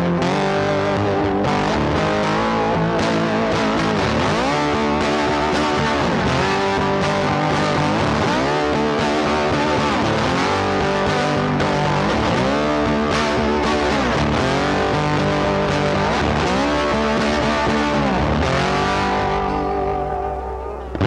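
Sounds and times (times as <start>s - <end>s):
bass guitar: 0.0s - 21.0s
distorted electric guitar: 0.0s - 21.0s.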